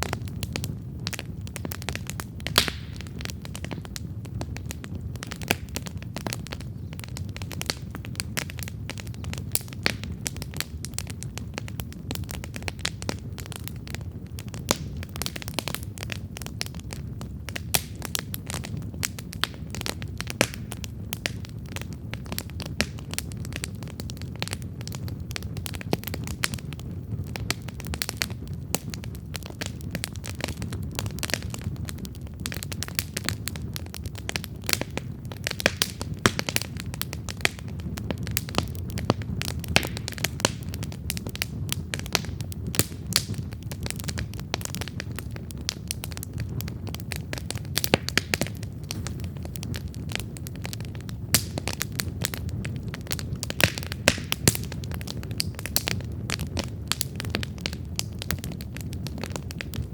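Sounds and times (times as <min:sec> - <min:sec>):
campfire crackling and popping: 0:00.0 - 0:59.9
flames rumbling: 0:00.0 - 0:59.9.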